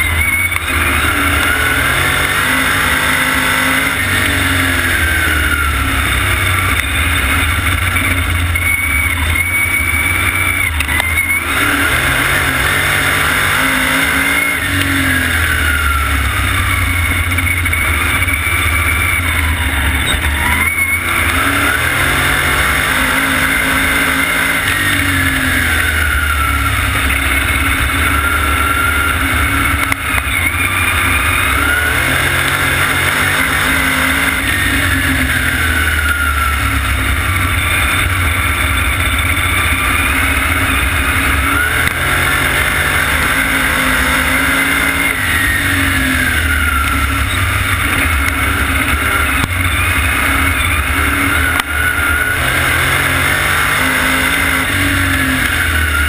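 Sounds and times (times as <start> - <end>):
race car engine: 0.0 - 56.0.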